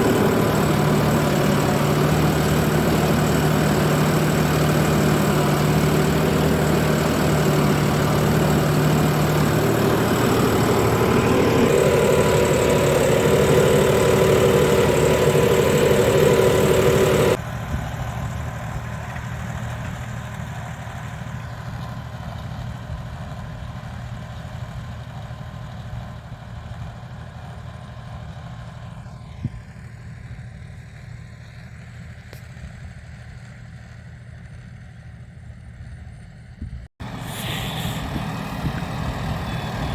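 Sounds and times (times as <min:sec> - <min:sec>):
tractor diesel engine running: 0:00.0 - 0:32.3, 0:32.9 - 0:39.9.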